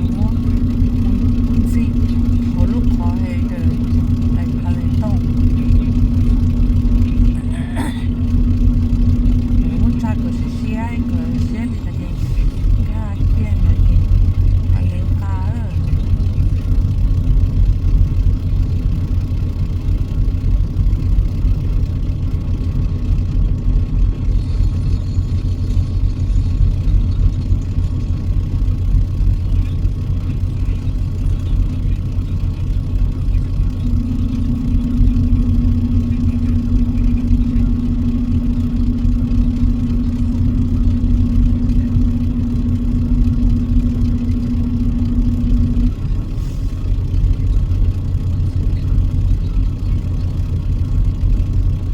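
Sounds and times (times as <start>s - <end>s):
steady low hum: 0.0s - 51.9s
truck engine rumbling: 0.0s - 51.9s.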